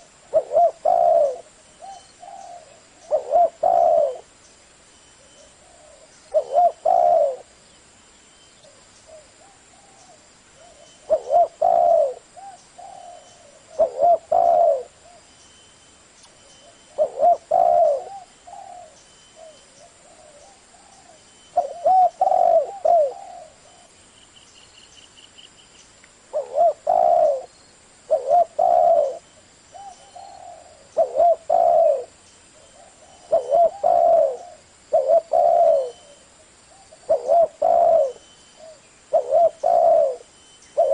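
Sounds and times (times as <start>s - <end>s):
dove cooing: 0.0s - 4.3s, 5.2s - 7.5s, 8.7s - 15.3s, 16.6s - 23.9s, 26.3s - 27.5s, 28.1s - 40.9s.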